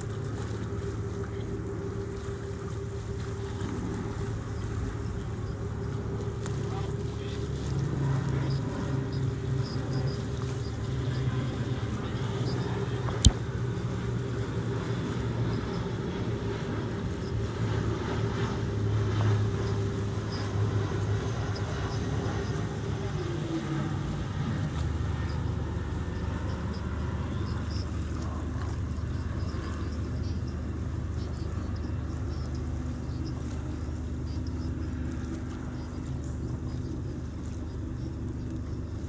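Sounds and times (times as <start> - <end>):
boat engine running: 0.0 - 39.0
water washing along hull: 0.0 - 39.0.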